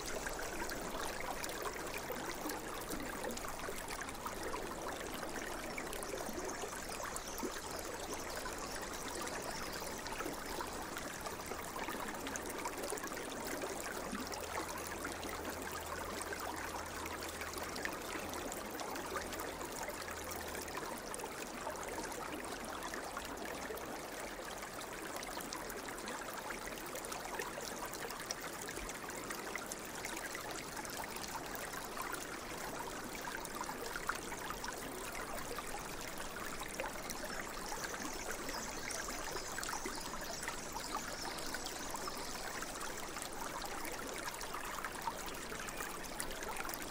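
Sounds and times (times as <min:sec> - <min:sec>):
flowing stream water: 0:00.0 - 0:46.9.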